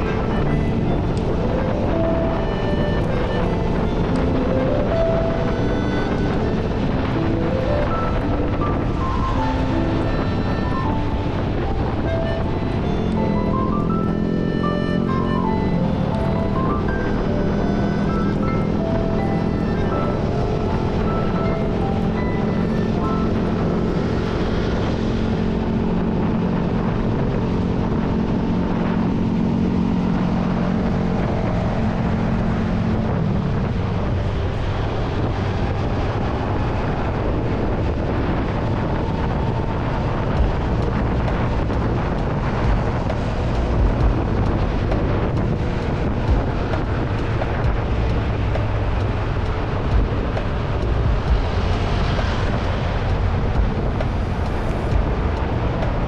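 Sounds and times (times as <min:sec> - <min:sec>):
motorcycle engine running: 0:00.0 - 0:56.0
road rumble: 0:00.0 - 0:56.0
wind noise on microphone: 0:00.0 - 0:56.0.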